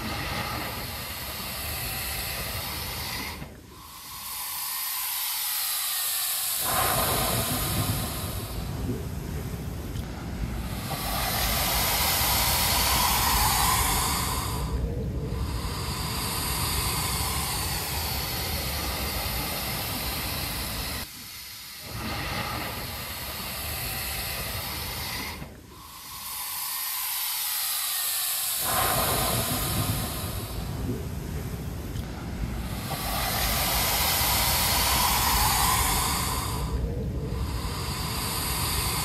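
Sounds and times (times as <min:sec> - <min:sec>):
water rushing through blowhole: 0:00.0 - 0:39.0.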